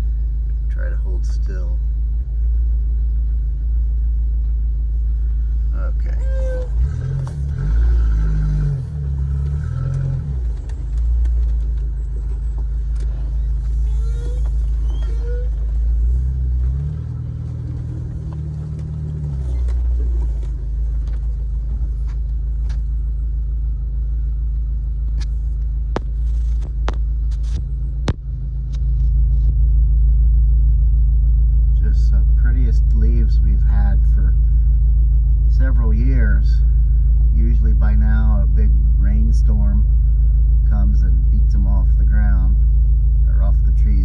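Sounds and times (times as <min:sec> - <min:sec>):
vehicle engine rumble: 0:00.0 - 0:44.0.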